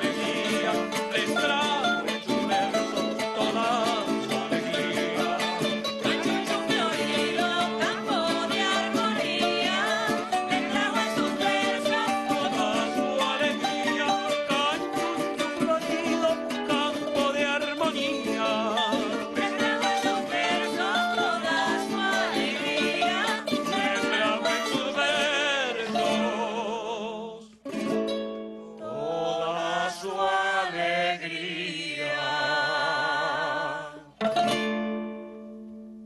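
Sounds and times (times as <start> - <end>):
voices singing together: 0.0 - 27.6, 28.7 - 34.2
plucked guitar and mandolins: 0.0 - 29.3, 33.6 - 36.0.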